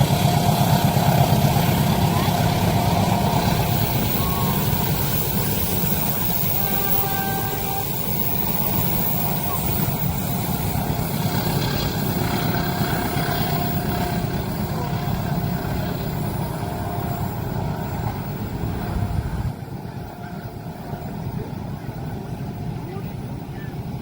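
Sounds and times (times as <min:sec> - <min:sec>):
passing train rumble: 0:00.0 - 0:24.0.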